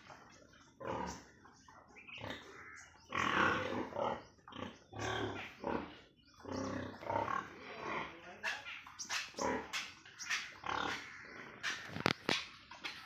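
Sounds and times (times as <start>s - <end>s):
pigs calling: 0.0s - 13.0s.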